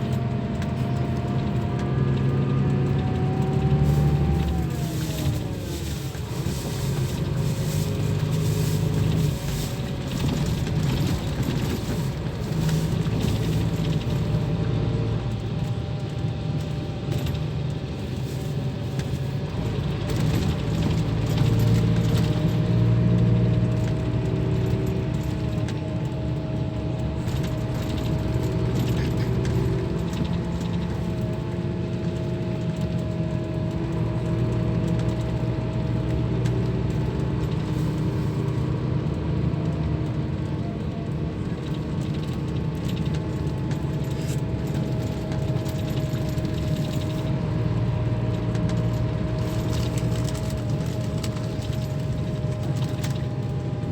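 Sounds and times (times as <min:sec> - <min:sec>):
bus diesel engine running: 0:00.0 - 0:53.9
light clicking and rattling: 0:00.1 - 0:53.9.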